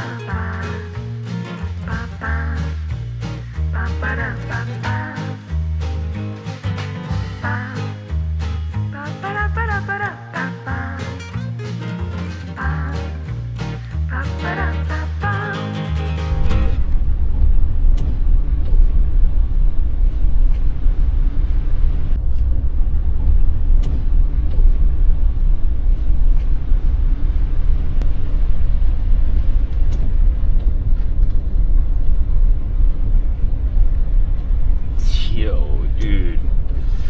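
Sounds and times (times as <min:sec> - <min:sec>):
van engine and tyres rumbling: 0:00.0 - 0:37.0.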